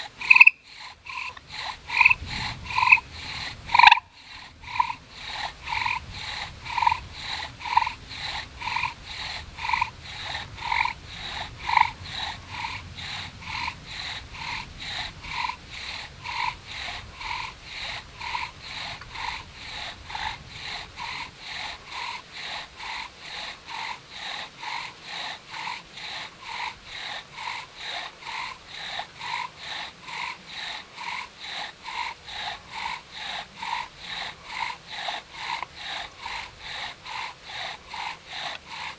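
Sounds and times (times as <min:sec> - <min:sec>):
wooden spindle squeaking: 0:00.0 - 0:38.9.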